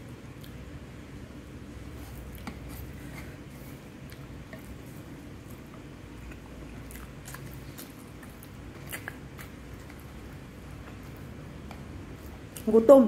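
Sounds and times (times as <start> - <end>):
steady low hum: 0.0 - 13.0
person chewing food: 0.2 - 0.9, 1.8 - 12.7.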